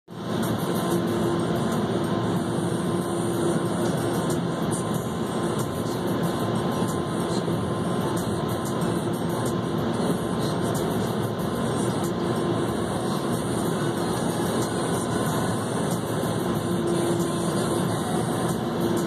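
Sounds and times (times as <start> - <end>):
steady hum: 0.1 - 19.0.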